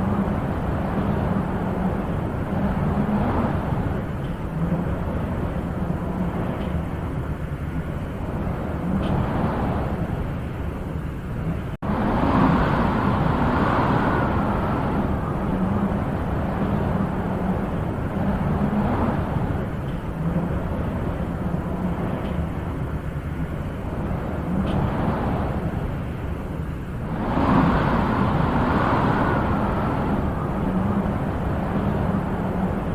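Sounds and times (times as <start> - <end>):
wind blowing: 0.0 - 32.9.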